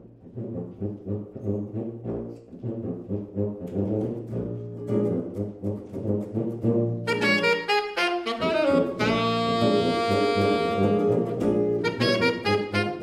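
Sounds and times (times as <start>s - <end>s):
tuba bass line: 0.0s - 13.0s.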